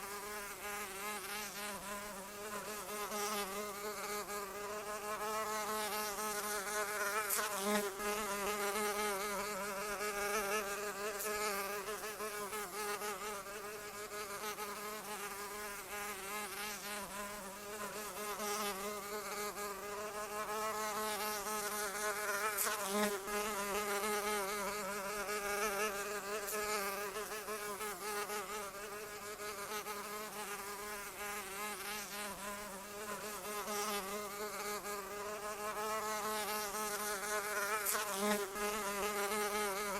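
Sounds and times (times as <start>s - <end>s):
fly buzzing in flight: 0.0s - 39.9s.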